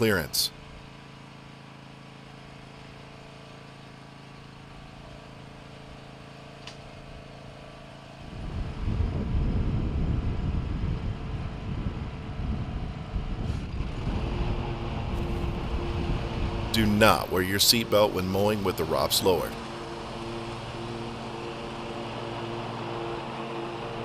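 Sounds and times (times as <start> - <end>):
riding mower engine: 0.0 - 24.0.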